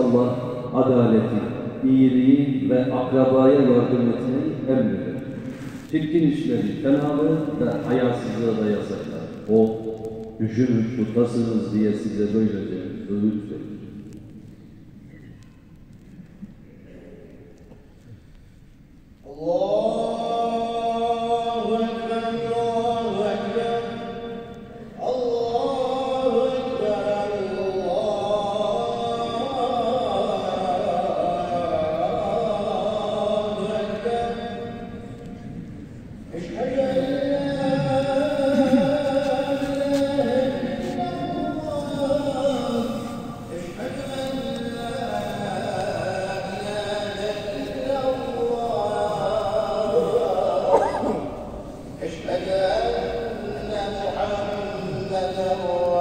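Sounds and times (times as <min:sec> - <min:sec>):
man chanting melodically: 0:00.0 - 0:14.2, 0:19.2 - 0:56.0.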